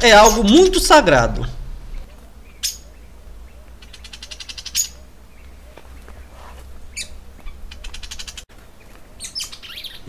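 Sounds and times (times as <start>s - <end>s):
bird chirping: 0.0s - 10.0s
bird trilling: 1.8s - 10.0s.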